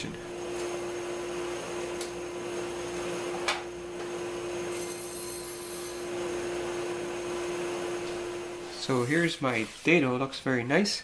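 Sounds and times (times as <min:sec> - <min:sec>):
table saw humming: 0:00.0 - 0:10.2.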